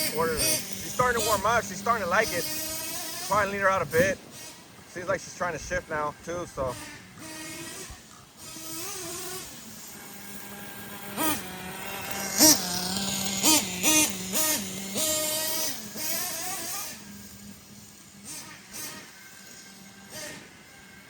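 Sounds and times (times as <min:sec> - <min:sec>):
model engine revving: 0:00.0 - 0:21.0.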